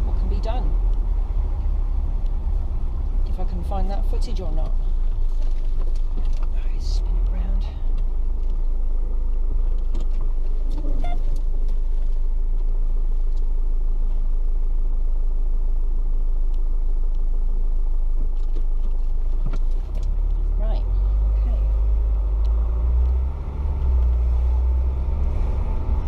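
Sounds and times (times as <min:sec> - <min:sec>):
diesel engine low rumble: 0:00.0 - 0:26.0.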